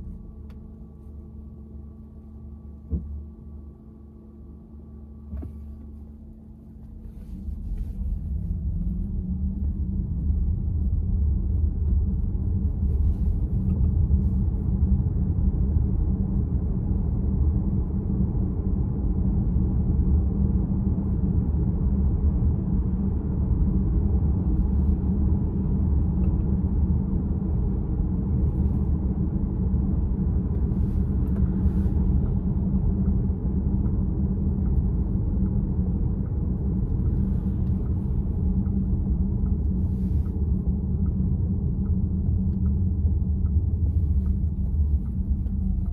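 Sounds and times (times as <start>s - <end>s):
road and tyre rumble: 5.2s - 45.9s.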